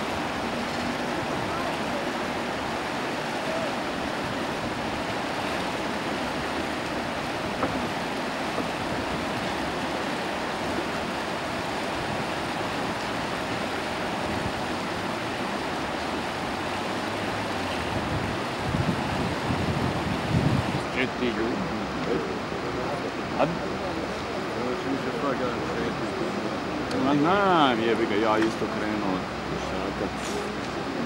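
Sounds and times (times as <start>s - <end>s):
river rushing and churning: 0.0s - 31.0s.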